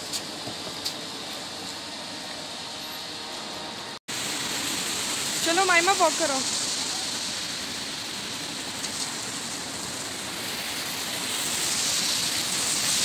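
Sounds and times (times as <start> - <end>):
car tyres hissing on wet street: 0.0 - 13.0.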